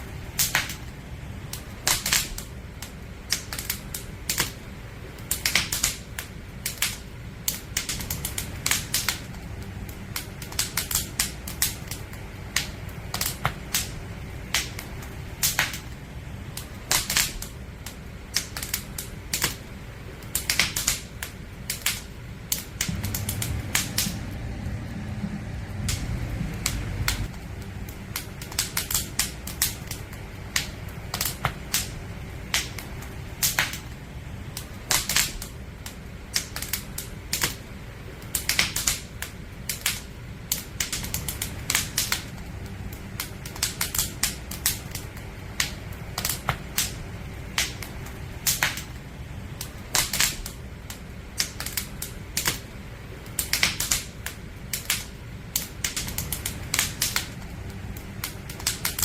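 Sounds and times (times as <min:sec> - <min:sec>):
low fire rumble: 0:00.0 - 0:59.0
wood fire popping: 0:00.0 - 0:59.0.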